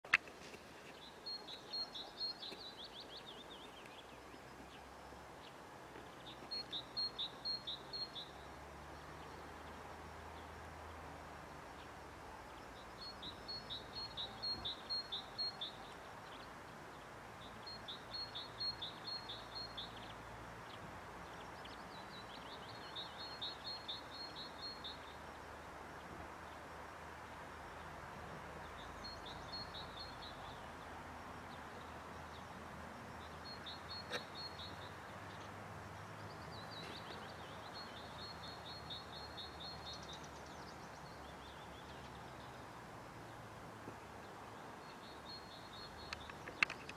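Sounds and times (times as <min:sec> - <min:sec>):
faint outdoor background hiss: 0:00.0 - 0:46.9.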